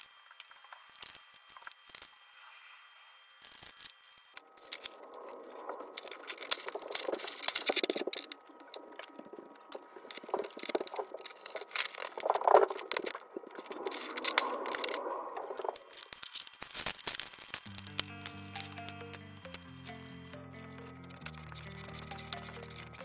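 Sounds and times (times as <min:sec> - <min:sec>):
items handled with rustling and scraping: 0:03.4 - 0:23.0.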